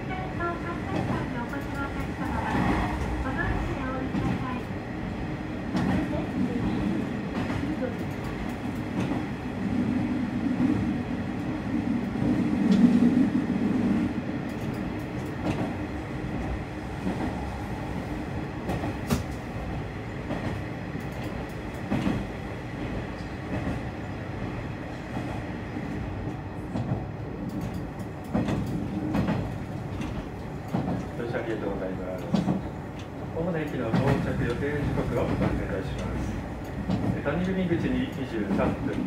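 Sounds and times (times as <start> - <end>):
railcar engine rumble: 0.0 - 39.0.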